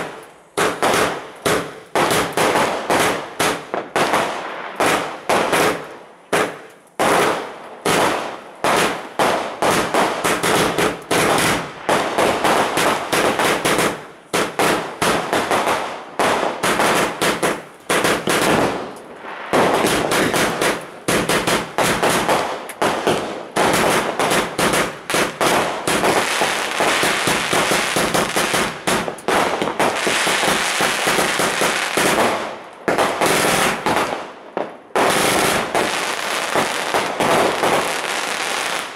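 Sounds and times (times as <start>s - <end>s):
firework cake bangs and crackling: 0.0s - 38.9s.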